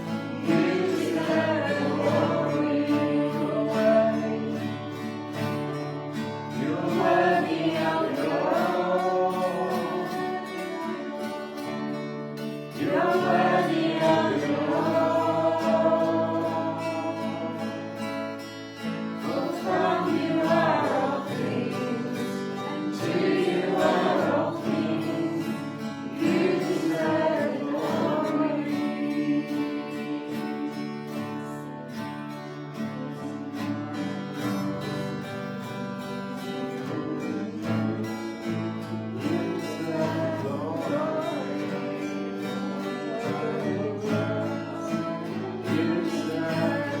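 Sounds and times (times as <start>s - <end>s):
voices singing worship song: 0.0s - 47.0s.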